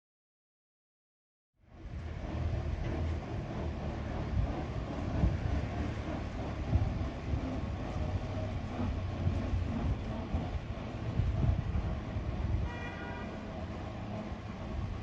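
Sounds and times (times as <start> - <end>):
tractor engine rumbling: 1.7 - 15.0.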